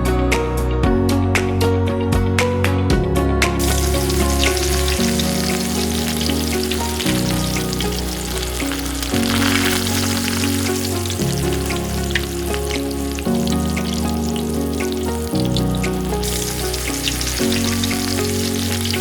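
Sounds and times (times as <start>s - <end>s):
background music: 0.0s - 19.0s
hot oil sizzling: 3.6s - 19.0s.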